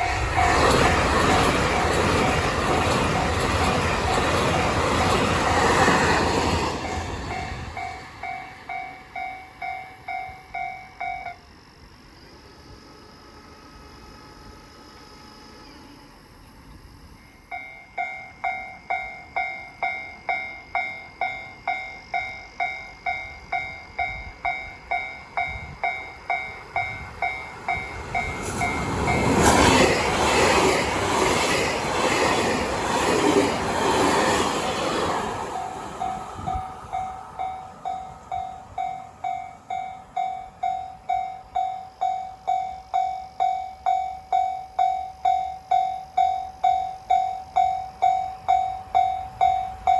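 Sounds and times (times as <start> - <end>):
train passing rumble: 0.0 - 12.0, 17.4 - 49.9.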